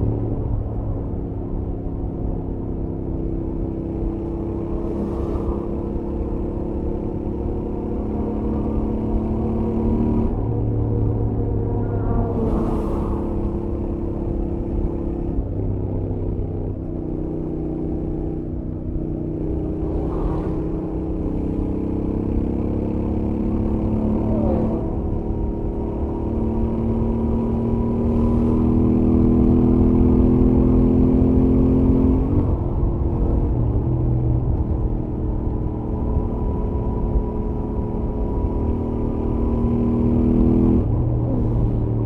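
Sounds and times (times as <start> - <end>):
motorcycle engine cruising: 1.1 - 42.0.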